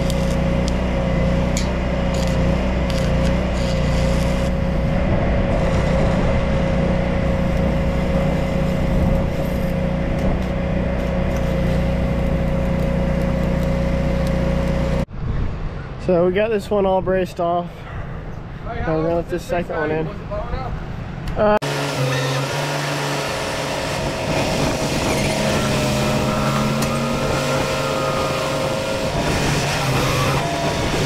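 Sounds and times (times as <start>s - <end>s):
engine humming with whine: 0.0s - 16.0s, 20.9s - 31.0s.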